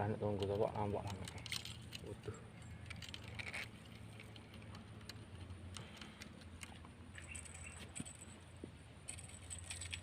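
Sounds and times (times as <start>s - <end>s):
low steady hum: 0.0s - 10.0s
light clicks and rustles: 0.3s - 10.0s.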